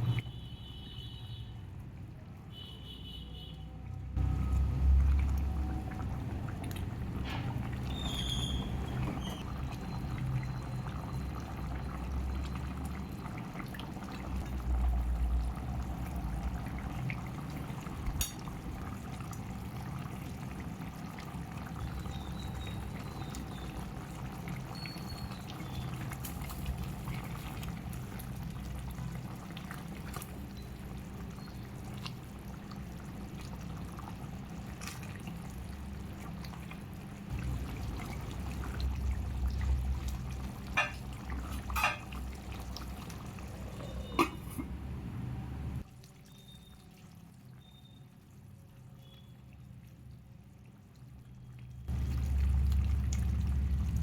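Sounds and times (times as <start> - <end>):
liquid bubbling in a pot: 0.0 - 54.0.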